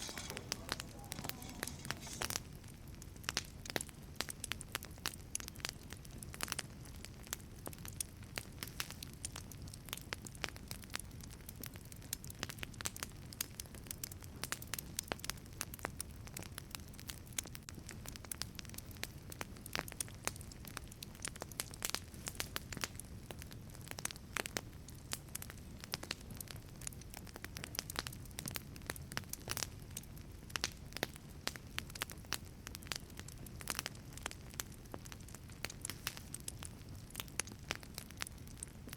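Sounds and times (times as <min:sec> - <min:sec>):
burning logs crackling: 0:00.0 - 0:38.9
low rumble of flames: 0:00.0 - 0:38.9.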